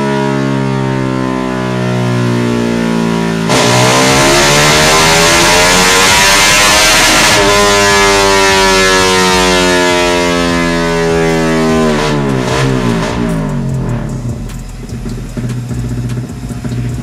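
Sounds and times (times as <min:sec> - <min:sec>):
motorcycle engine revs falling to idle: 0:00.0 - 0:17.0.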